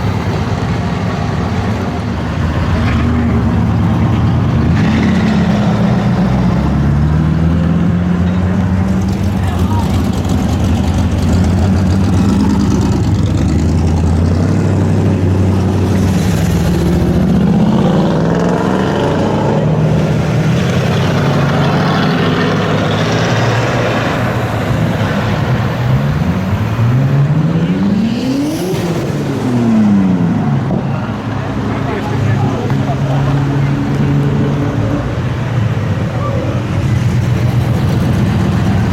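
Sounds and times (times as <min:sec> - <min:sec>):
car engine revving: 0:00.0 - 0:38.9
car engines rumbling: 0:00.0 - 0:38.9.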